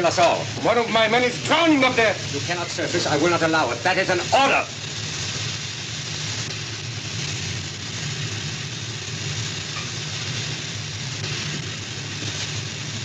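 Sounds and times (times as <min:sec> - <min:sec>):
machinery drone with hiss: 0:00.0 - 0:13.0.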